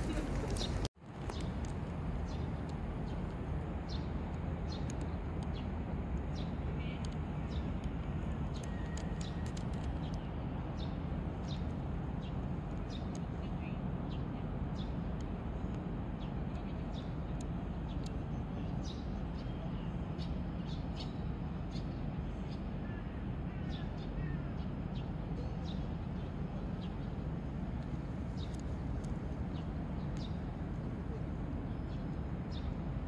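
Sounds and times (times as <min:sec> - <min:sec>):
low outdoor background rumble: 0:00.0 - 0:33.0.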